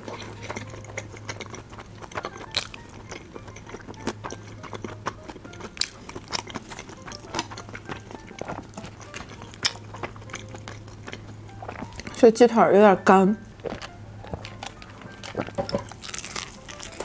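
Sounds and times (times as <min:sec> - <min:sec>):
chewing with mouth clicks: 0:00.0 - 0:12.3, 0:13.4 - 0:17.0.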